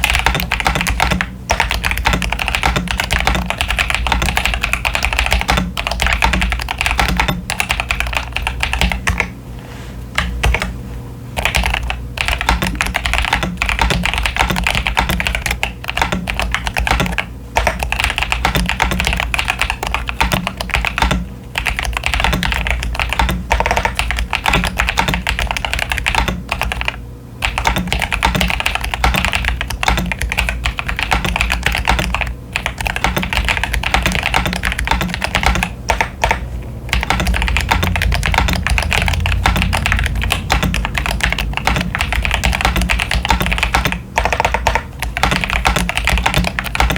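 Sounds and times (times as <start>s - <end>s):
typing on mechanical keyboard: 0.0s - 9.3s, 10.2s - 10.7s, 11.4s - 46.9s.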